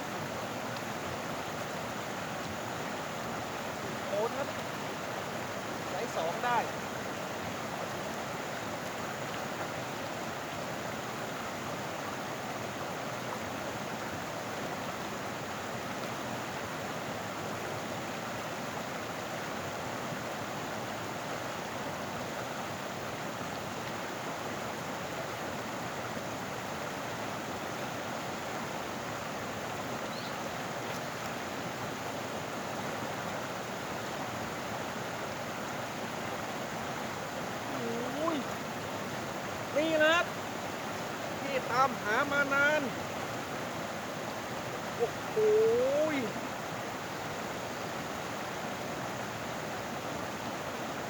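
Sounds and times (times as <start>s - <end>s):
flowing stream water: 0.0s - 51.0s.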